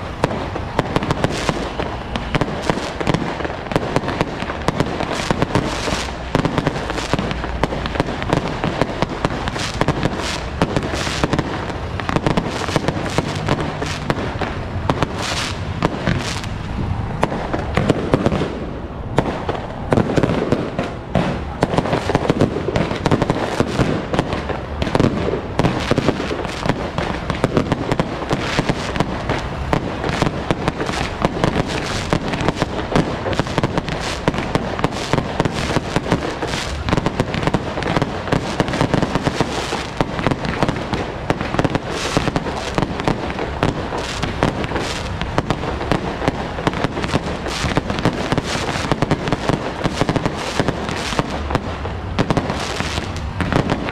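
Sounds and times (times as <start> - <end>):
loud single firecracker cracks: 0.0 - 16.6, 17.2 - 53.9
firecrackers crackling: 0.0 - 53.9.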